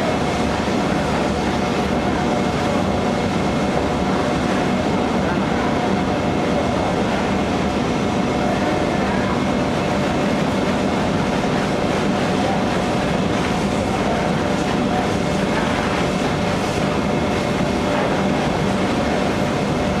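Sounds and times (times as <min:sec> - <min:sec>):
conveyor machinery running: 0:00.0 - 0:20.0.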